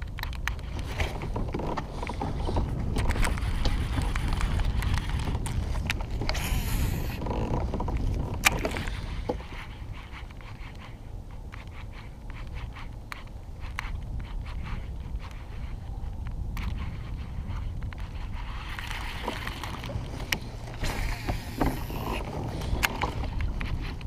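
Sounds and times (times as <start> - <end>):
fishing gear clicks and scrapes: 0.0 - 24.0.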